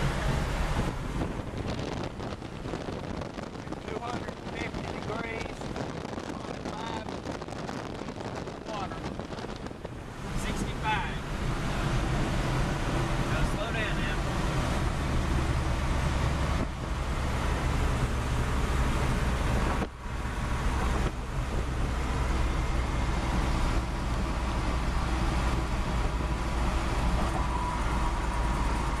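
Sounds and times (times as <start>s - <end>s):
truck engine tyre and wind noise: 0.0s - 29.0s.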